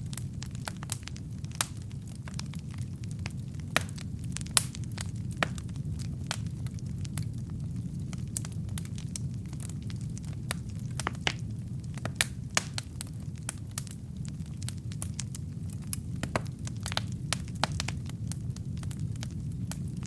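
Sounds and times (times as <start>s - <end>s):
low rumble of flame: 0.0s - 20.0s
wood fire crackling: 0.0s - 20.0s.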